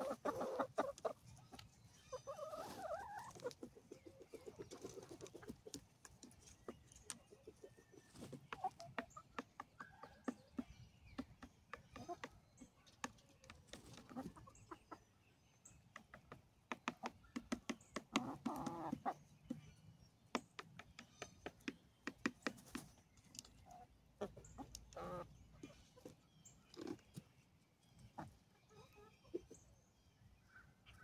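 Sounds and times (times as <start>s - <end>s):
hens clucking softly: 0.0s - 15.2s, 15.9s - 19.7s, 20.3s - 27.4s, 28.0s - 29.8s.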